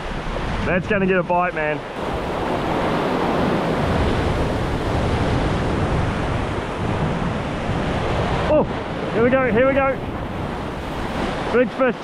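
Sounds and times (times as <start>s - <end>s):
sea surf: 0.0s - 12.0s
wind buffeting microphone: 0.0s - 12.0s.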